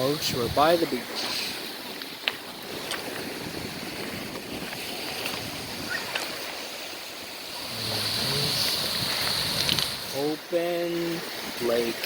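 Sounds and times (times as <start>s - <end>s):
waves washing on shore: 0.0s - 12.0s.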